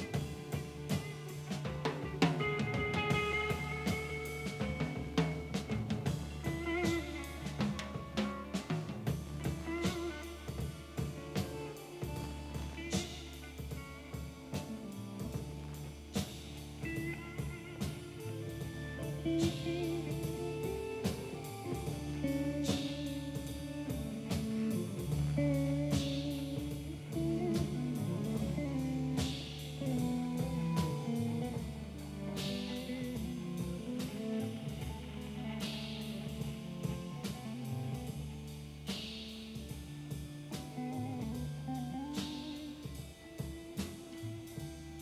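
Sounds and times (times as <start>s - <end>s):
bass and drums: 0.0s - 45.0s
electric guitar lines: 0.0s - 45.0s.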